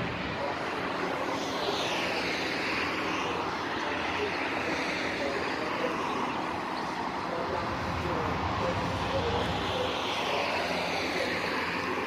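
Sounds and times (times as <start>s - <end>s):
passing motor traffic: 0.0s - 12.0s.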